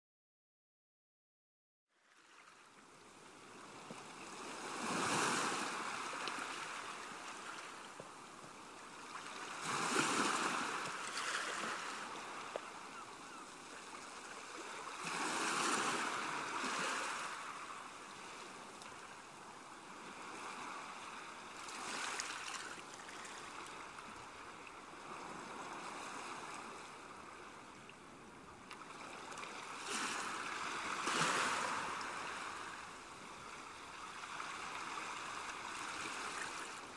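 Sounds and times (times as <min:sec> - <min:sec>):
small waves breaking on sand: 0:02.0 - 0:27.8, 0:28.6 - 0:36.9.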